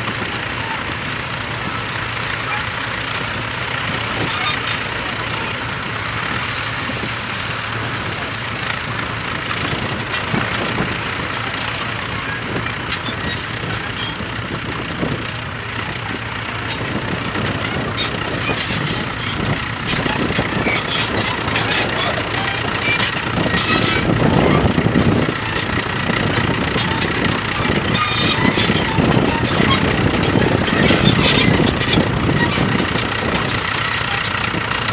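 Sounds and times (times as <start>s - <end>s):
crawler tractor engine under load: 0.0s - 34.9s.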